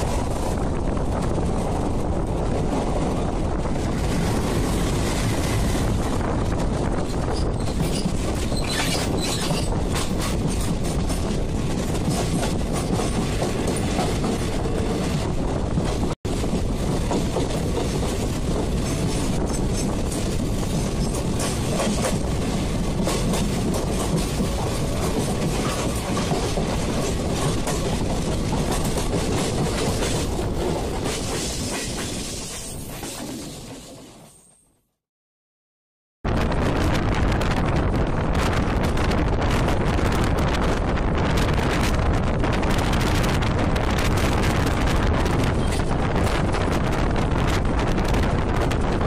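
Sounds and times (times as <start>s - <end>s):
train wheels clickety-clack: 0.0s - 34.3s, 38.4s - 49.0s.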